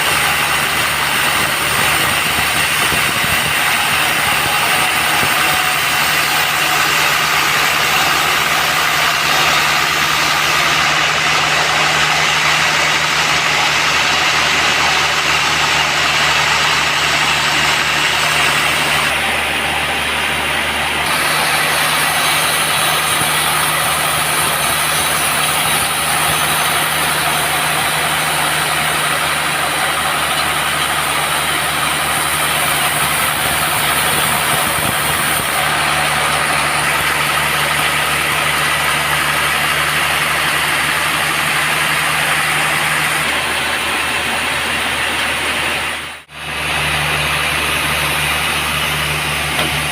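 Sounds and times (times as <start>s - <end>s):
sawmill machine drone: 0.0s - 49.9s.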